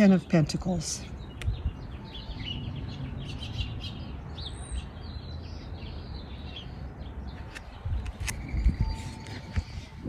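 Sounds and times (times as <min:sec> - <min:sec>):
small songbirds chirping: 0:00.0 - 0:10.0.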